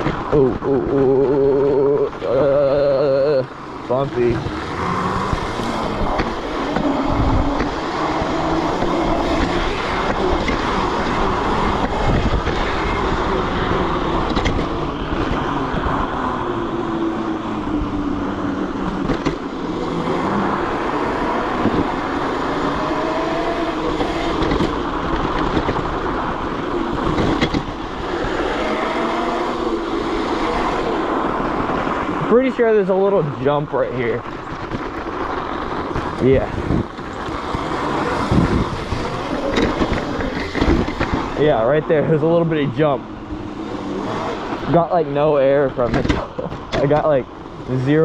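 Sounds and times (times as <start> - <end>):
electric motor whine: 0.0 - 33.0, 34.5 - 45.3
tyres and wind rumble: 0.0 - 48.0.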